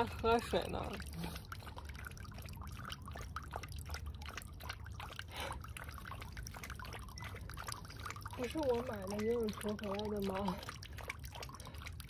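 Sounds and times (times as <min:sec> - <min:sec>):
dog lapping water: 0:00.0 - 0:12.0
water dripping: 0:00.0 - 0:12.0.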